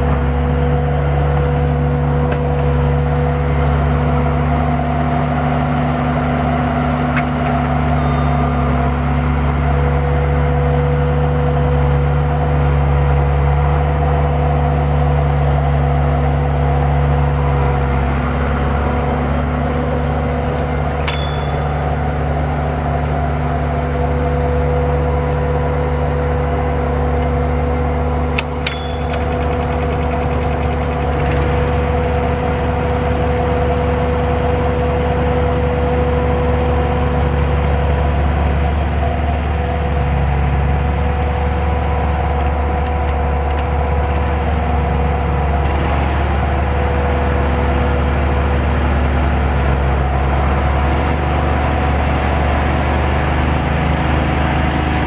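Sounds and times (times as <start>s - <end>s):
small gasoline engine running: 0.0s - 55.0s.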